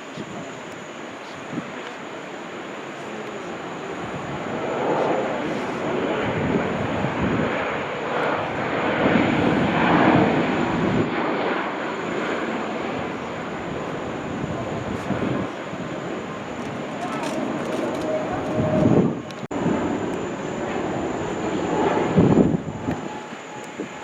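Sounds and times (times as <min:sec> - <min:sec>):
jet airliner engines passing: 0:00.0 - 0:24.0.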